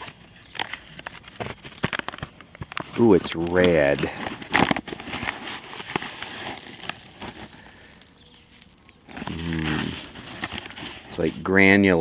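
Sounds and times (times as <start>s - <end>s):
granules rustling: 0.0s - 11.6s
paper bag crinkling: 0.0s - 11.6s.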